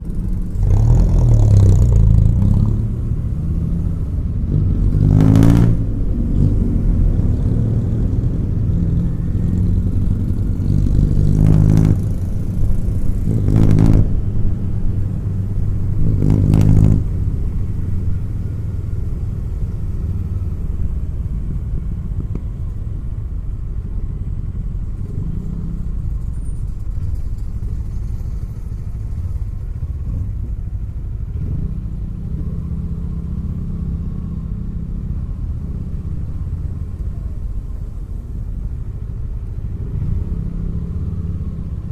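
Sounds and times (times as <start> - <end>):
motorcycle engine running: 5.7 - 41.9.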